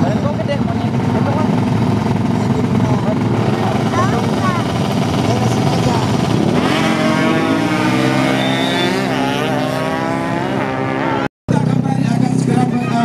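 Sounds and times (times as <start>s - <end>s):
racing engine revving: 0.0s - 13.0s.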